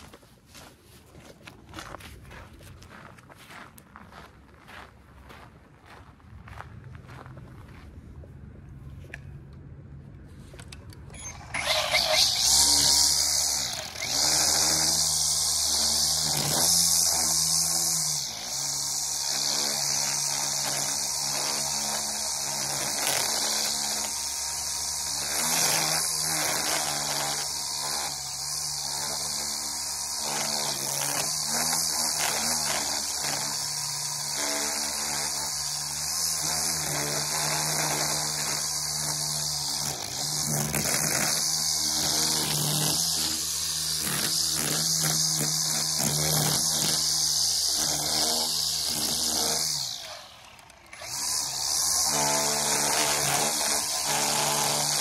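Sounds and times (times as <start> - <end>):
string trimmer cutting grass: 0.0 - 4.1, 10.5 - 55.0.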